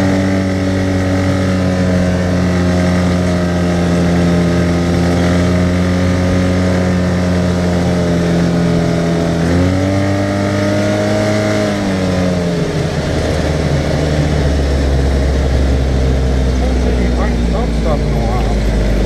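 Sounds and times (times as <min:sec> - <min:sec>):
steady rushing noise: 0:00.0 - 0:19.0
utility vehicle engine running: 0:00.0 - 0:19.0.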